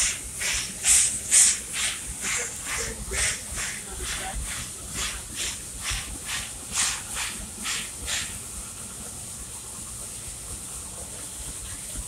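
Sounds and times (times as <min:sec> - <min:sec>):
steam hissing: 0:00.0 - 0:12.0
steam locomotive exhaust chuffs: 0:00.0 - 0:12.0.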